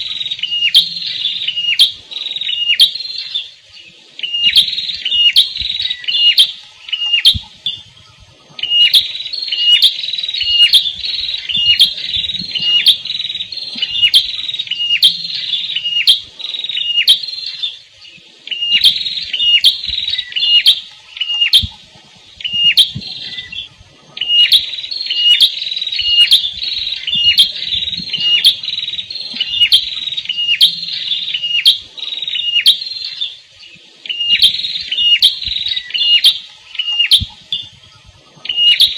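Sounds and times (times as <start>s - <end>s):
songbird chirping rapidly: 0.0s - 38.9s.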